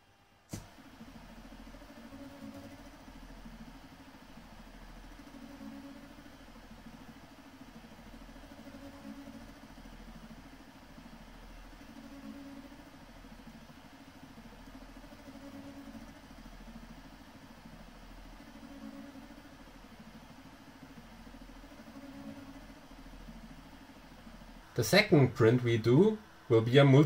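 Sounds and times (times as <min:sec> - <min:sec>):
stepper motors humming and whining: 0:00.0 - 0:27.0.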